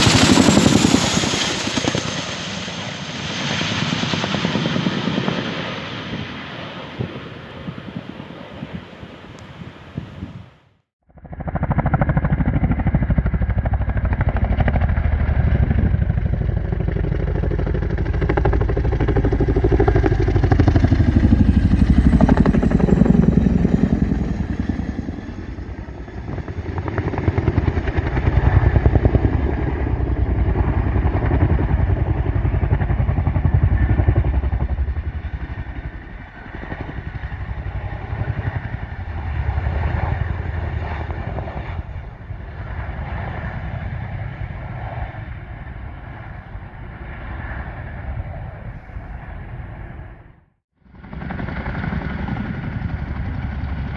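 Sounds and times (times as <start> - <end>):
helicopter rotors thudding: 0.0 - 8.6, 11.2 - 53.9.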